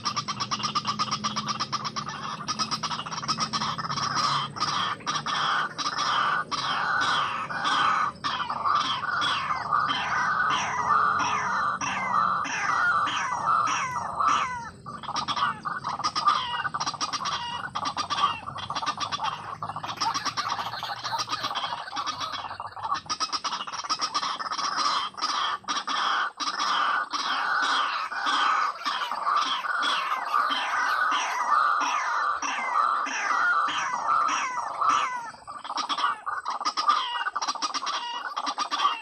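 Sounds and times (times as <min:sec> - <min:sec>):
waterhen harsh clucking calls: 0:00.0 - 0:39.0.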